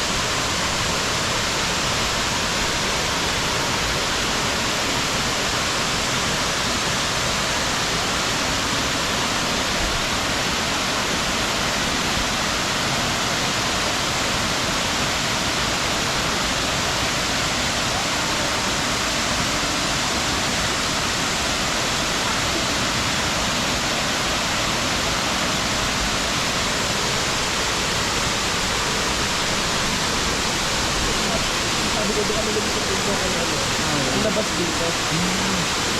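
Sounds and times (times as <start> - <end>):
waterfall pouring into pool: 0.0 - 35.9.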